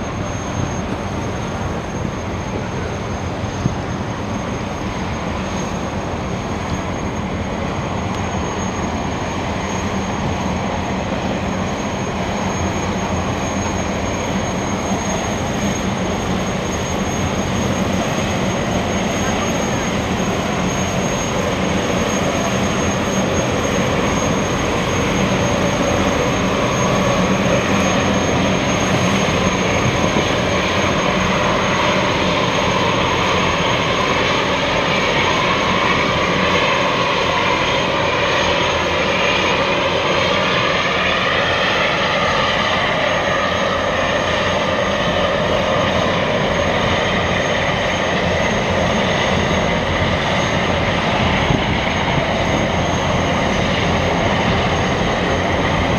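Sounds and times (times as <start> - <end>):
gas turbines rush and rumble: 0.0 - 55.9
turbine whine: 0.0 - 55.9.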